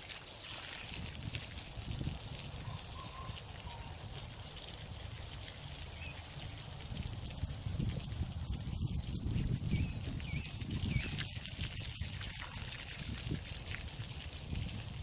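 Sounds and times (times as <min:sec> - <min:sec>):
water spraying onto dirt: 0:00.0 - 0:15.0.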